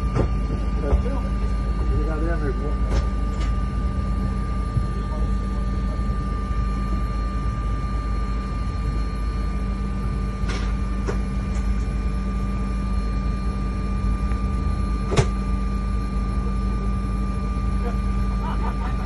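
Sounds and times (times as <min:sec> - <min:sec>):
machinery engine drone: 0:00.0 - 0:19.0.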